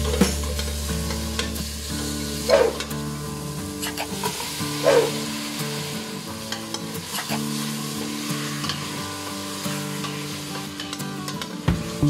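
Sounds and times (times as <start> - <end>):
soft background music: 0.0 - 12.0
vegetables sizzling in oil: 0.0 - 12.0.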